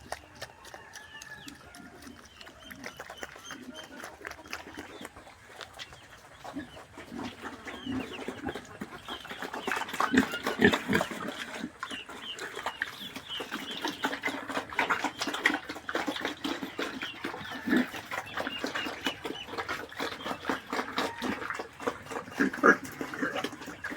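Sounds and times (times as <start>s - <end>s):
pigs grunting and squealing: 0.0s - 23.9s.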